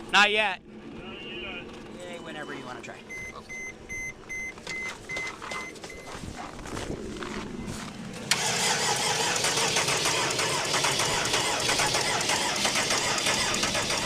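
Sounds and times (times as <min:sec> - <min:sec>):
car engine cranking: 0:01.6 - 0:14.0.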